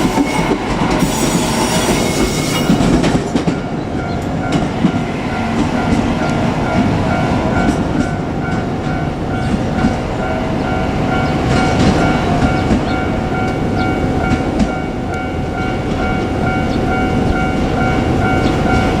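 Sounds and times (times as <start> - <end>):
train wheels clicking over rail joints: 0.0 - 10.1, 11.2 - 19.0
crossing warning bell ringing: 0.0 - 19.0.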